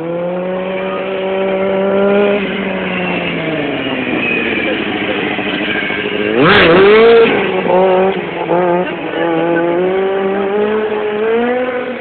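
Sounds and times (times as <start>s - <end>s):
motorcycle engine revving hard: 0.0s - 12.0s.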